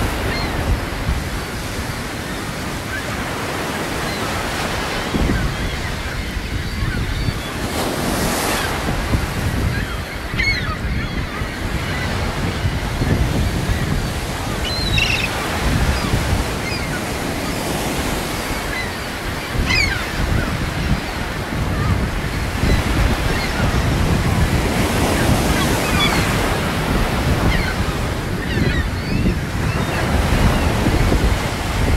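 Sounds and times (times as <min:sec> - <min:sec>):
ocean surf washing: 0:00.0 - 0:31.9
wind buffeting microphone: 0:00.0 - 0:31.9.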